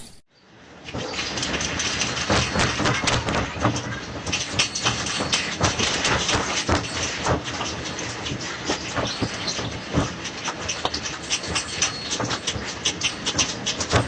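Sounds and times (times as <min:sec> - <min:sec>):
objects rattling and clattering: 0:01.1 - 0:14.0.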